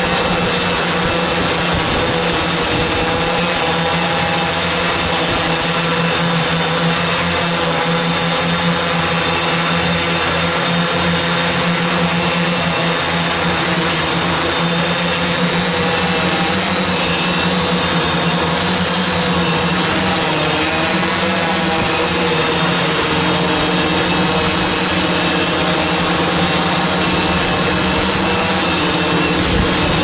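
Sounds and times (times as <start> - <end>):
drone propellers humming: 0.0 - 30.0.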